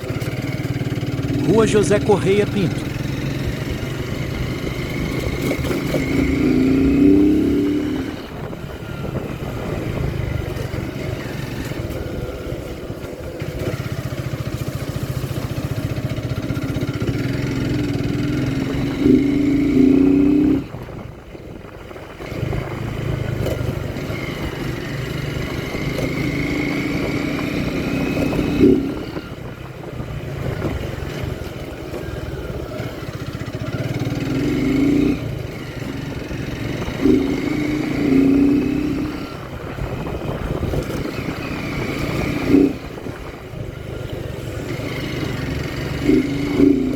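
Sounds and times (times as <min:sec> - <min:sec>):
motorcycle engine revving: 0:00.0 - 0:21.0, 0:22.2 - 0:46.9.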